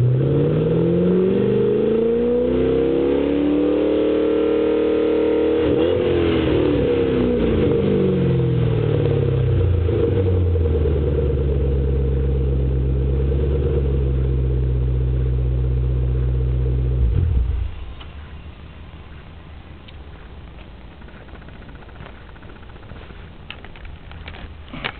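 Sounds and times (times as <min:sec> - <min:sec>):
car engine revving and idling: 0:00.0 - 0:23.4.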